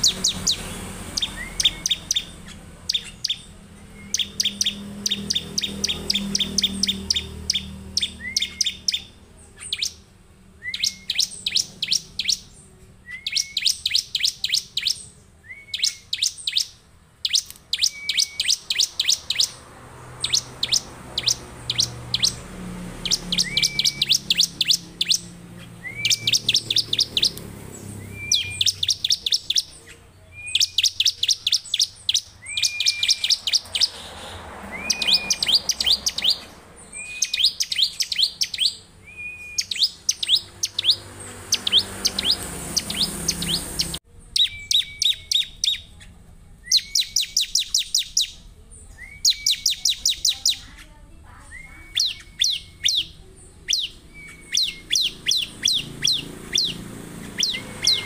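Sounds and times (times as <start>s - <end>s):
bird singing sharp chips: 0.0s - 58.0s.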